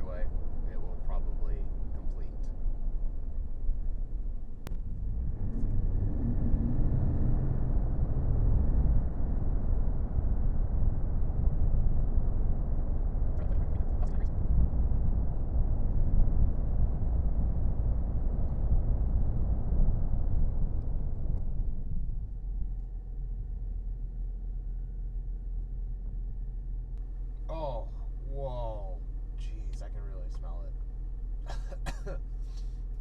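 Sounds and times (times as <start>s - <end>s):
diesel engine low rumble: 0.0s - 33.0s
road noise: 0.0s - 33.0s.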